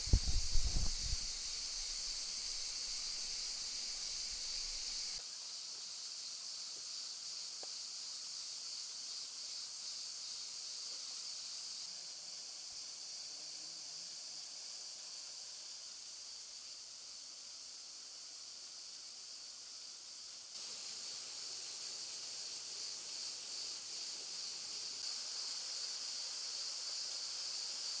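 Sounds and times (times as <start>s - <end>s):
cicadas chorus: 0.0s - 28.0s.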